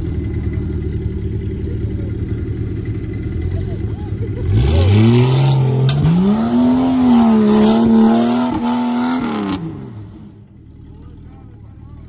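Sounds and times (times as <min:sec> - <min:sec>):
suv engine revving: 0:00.0 - 0:10.9.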